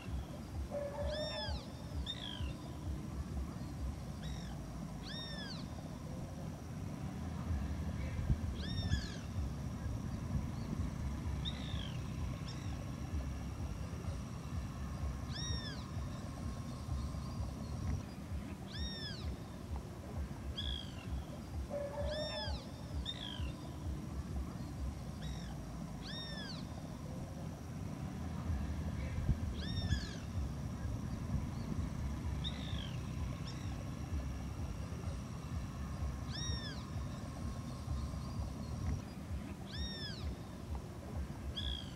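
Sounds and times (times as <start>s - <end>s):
steady low rumble: 0.0s - 41.9s.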